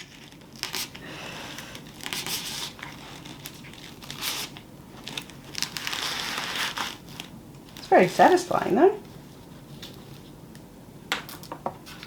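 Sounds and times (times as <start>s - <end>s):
artificial wreath rustling: 0.0s - 10.4s.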